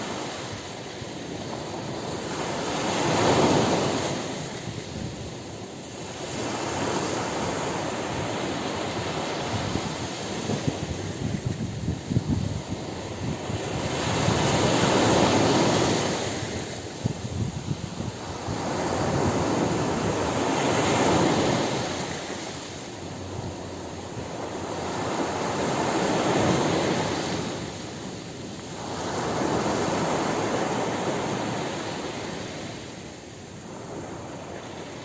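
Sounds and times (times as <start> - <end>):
ocean waves breaking on beach: 0.0 - 35.0.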